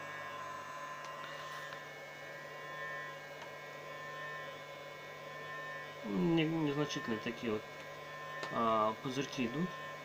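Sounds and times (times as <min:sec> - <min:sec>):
power inverter humming: 0:00.0 - 0:10.0
thin high whine: 0:00.0 - 0:10.0.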